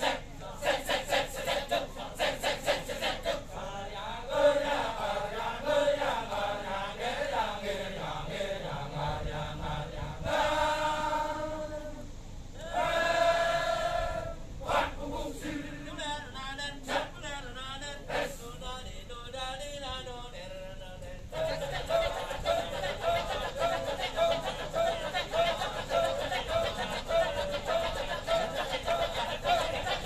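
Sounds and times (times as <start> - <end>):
men chanting in chorus: 0.0 - 12.0, 12.6 - 18.9, 21.2 - 30.0
rhythmic cak-cak chanting: 0.0 - 18.8, 20.9 - 30.0.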